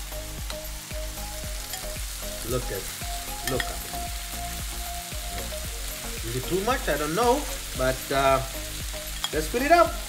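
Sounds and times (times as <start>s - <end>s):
sauce sizzling in a frying pan: 0.0s - 10.0s.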